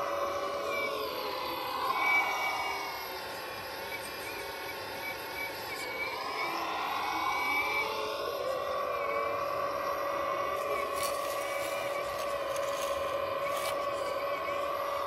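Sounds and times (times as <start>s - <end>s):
electric hydraulic pump whine: 0.0s - 15.0s.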